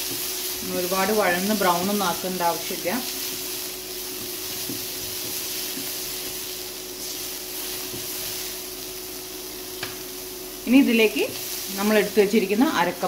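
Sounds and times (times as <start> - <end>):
steady hum: 0.0 - 13.0
vegetables sizzling in oil: 0.0 - 13.0.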